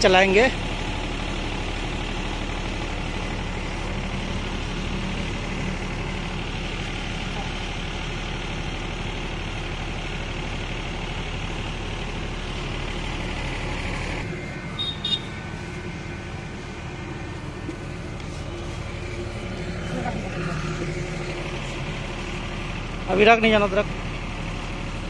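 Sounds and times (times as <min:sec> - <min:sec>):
generator engine drone: 0:00.0 - 0:25.0.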